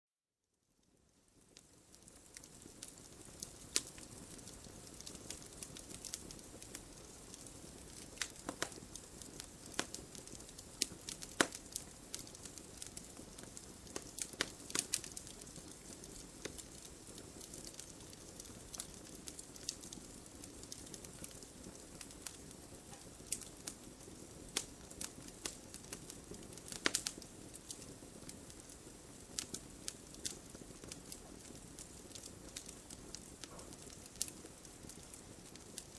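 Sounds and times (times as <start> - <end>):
campfire crackling: 0.8 - 35.9.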